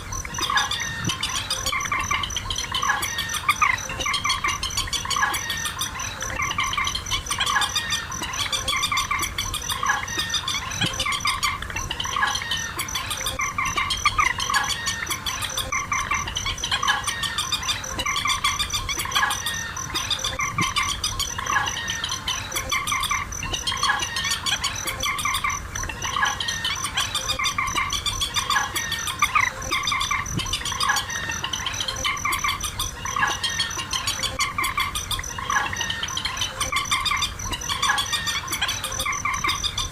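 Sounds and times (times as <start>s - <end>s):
rail bird calls: 0.0s - 39.9s.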